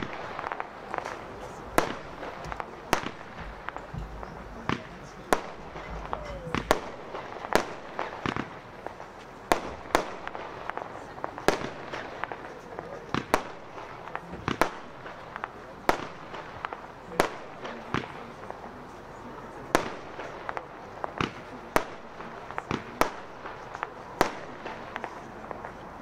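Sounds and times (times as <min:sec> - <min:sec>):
firework pops and cracks: 0:00.0 - 0:19.0, 0:19.7 - 0:26.0
firework bangs: 0:00.0 - 0:26.0.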